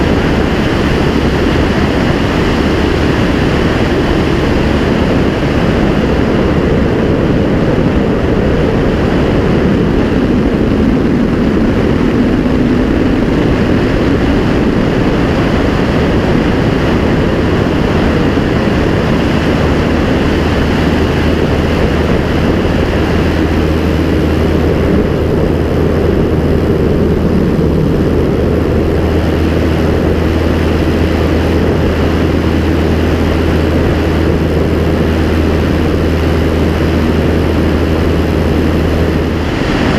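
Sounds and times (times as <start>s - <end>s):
airplane engine and propeller drone: 0.0s - 39.9s
wind rushing: 0.0s - 39.9s.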